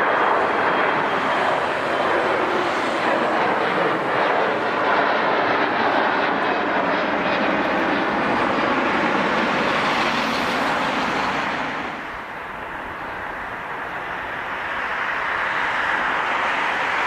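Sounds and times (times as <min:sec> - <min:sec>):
jet airliner engine rush: 0:00.0 - 0:17.0.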